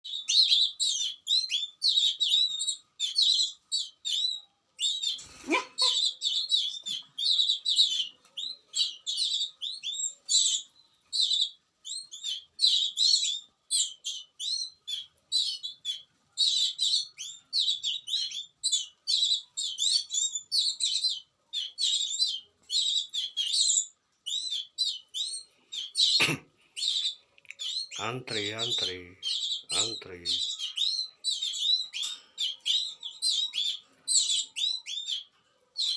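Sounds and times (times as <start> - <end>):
baby birds cheeping: 0.0 - 35.9.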